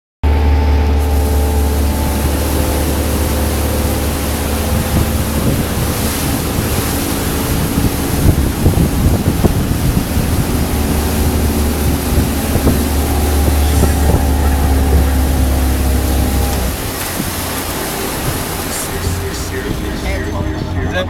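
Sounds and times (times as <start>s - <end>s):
motorboat engine running: 0.2s - 21.0s
water rushing past hull: 0.2s - 21.0s
wind buffeting microphone: 0.7s - 21.0s.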